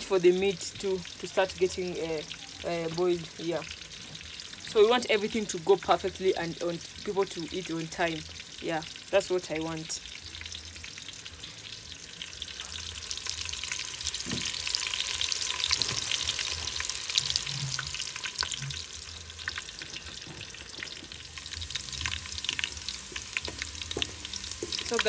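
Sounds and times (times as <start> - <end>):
onions frying in oil: 0.0 - 25.0.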